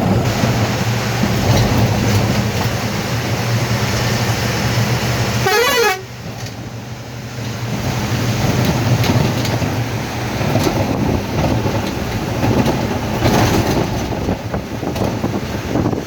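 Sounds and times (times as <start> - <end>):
vehicle rumbling: 0.0 - 16.0.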